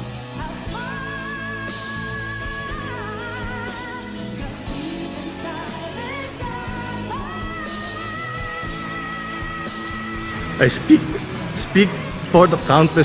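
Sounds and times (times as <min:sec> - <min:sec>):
woman singing pop ballad: 0:00.0 - 0:11.4
band accompaniment: 0:01.2 - 0:13.0.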